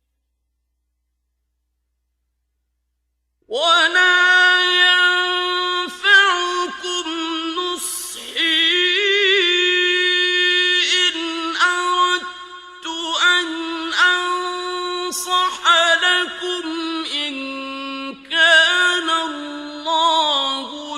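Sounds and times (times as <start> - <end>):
man reciting melodically: 3.5 - 20.9.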